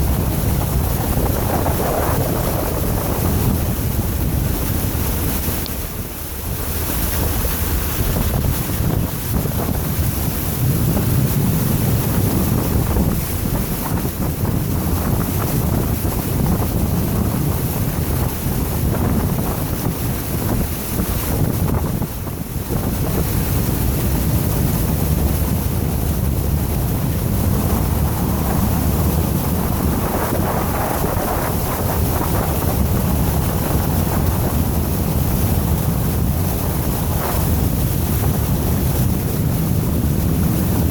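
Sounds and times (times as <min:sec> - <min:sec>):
water rushing around tyres: 0:00.0 - 0:40.9.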